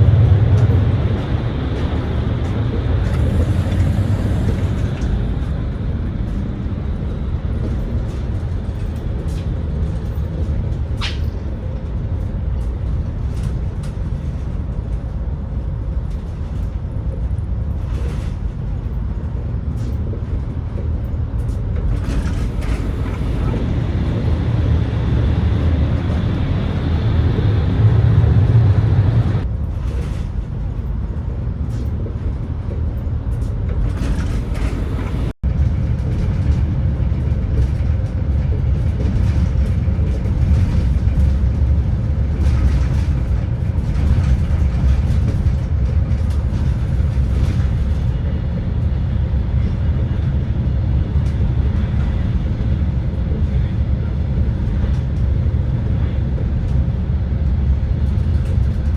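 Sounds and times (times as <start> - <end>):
train rumbling in motion: 0.0 - 58.9.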